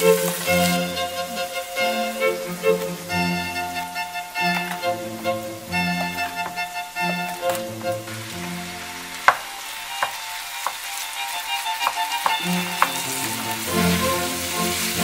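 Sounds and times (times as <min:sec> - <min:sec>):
light background music: 0:00.0 - 0:15.0
minced meat sizzling: 0:00.0 - 0:15.0.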